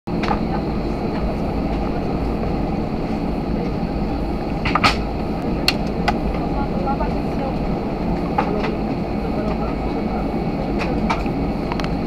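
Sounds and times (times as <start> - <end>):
jet engines rumbling in cabin: 0.1 - 12.0.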